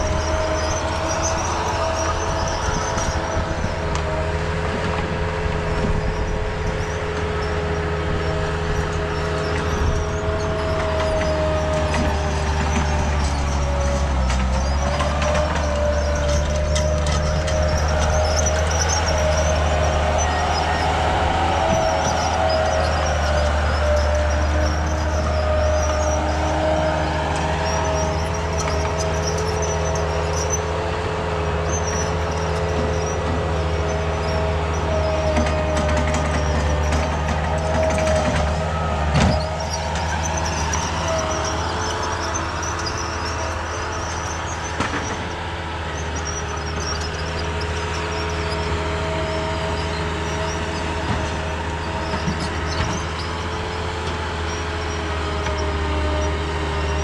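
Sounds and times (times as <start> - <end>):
diesel engine running: 0.0 - 57.0
high wavering metallic squeal: 0.0 - 57.0.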